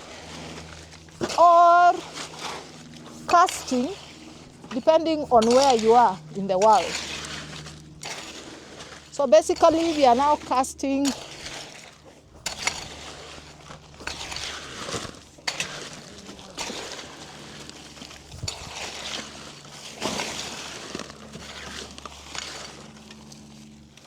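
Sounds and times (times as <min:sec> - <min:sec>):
steady low hum: 0:00.0 - 0:24.0
wet concrete sloshing and scraping: 0:00.0 - 0:24.0.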